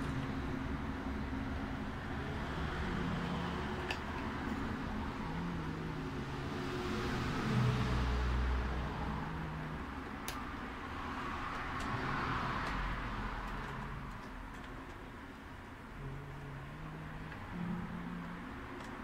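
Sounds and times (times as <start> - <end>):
motor vehicles rumbling: 0.0 - 19.0.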